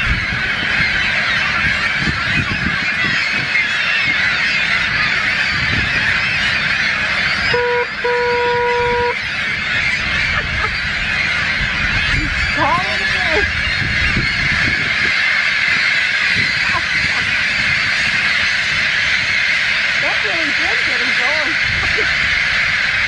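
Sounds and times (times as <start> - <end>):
seagulls calling: 0.0 - 23.0.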